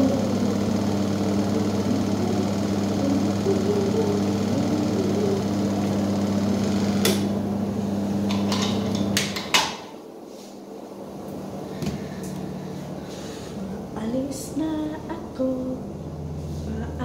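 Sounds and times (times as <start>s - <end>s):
washing machine motor humming: 0.0s - 9.8s, 10.9s - 17.0s.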